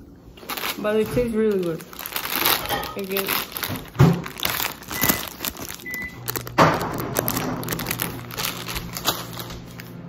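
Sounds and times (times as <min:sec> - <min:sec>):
steady low hum: 0:00.0 - 0:10.0
plastic bag crinkling: 0:00.3 - 0:10.0.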